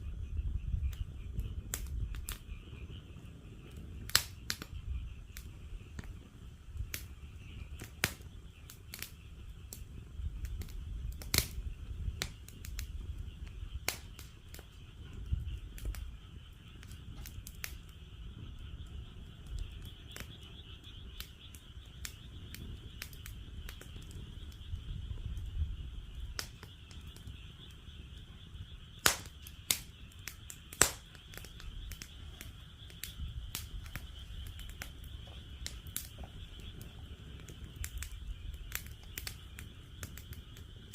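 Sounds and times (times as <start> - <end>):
frogs chorusing: 0.0 - 40.9
wood fire crackling: 0.0 - 40.9.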